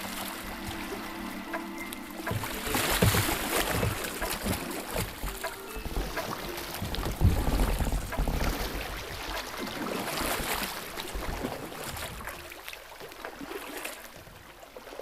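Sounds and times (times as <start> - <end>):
water rushing over rocks: 0.0 - 12.6
paddle splashing: 0.0 - 15.0.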